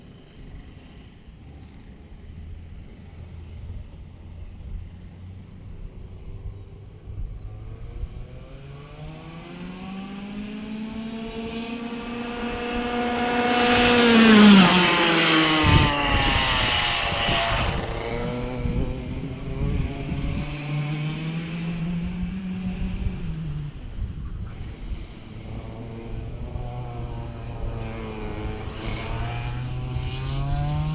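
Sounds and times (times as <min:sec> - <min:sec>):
race car engine passing: 0:02.2 - 0:30.9.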